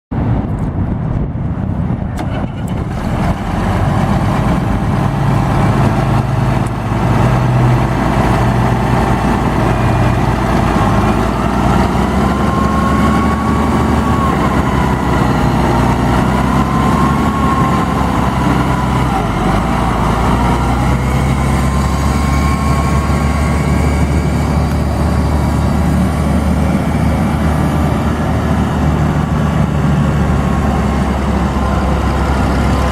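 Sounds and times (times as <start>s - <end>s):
tractor diesel engine running: 1.6s - 32.9s.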